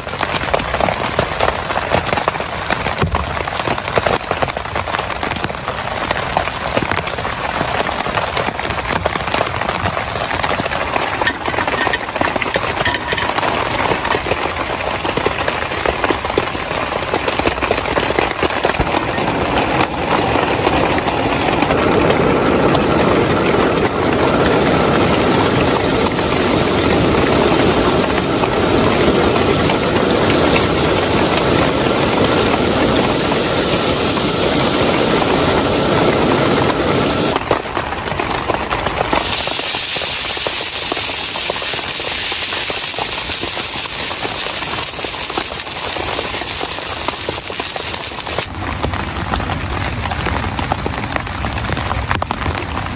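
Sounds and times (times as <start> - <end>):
heavy rain drumming on a tent: 0.0 - 52.9.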